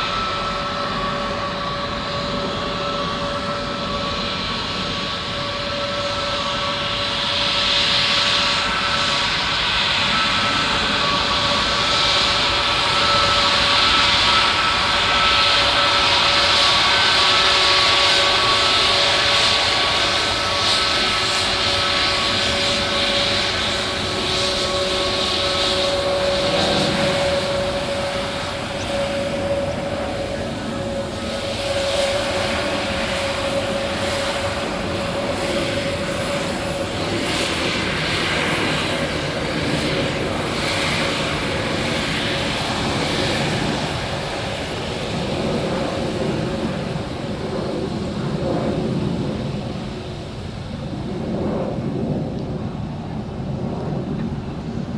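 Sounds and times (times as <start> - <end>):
jet engine whine: 0.0 - 54.9.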